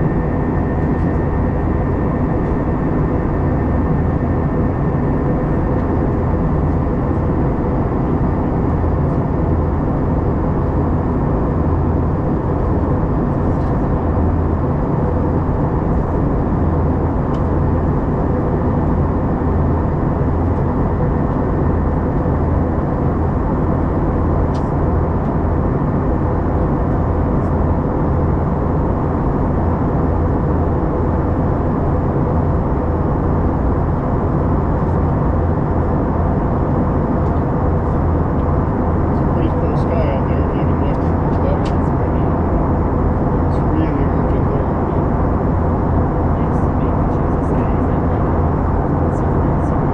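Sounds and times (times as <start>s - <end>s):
jet engine drone in cabin: 0.0s - 49.9s.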